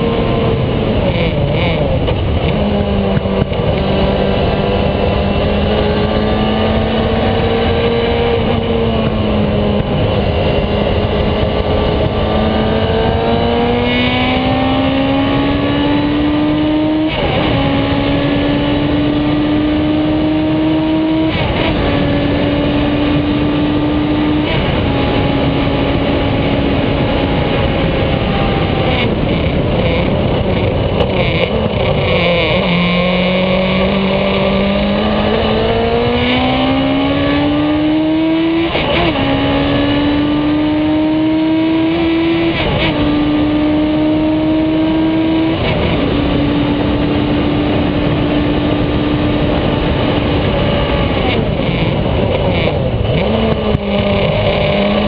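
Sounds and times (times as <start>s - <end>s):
racing car engine at high revs: 0.0s - 55.0s.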